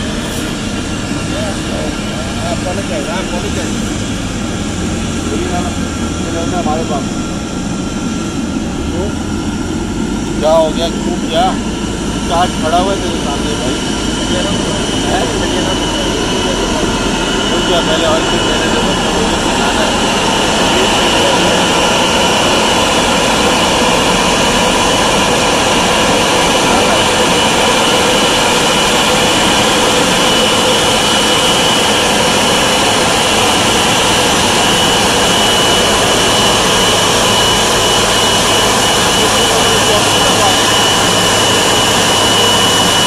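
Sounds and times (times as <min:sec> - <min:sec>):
high jet engine whine: 0:00.0 - 0:43.0
jet engines rushing: 0:00.0 - 0:43.0.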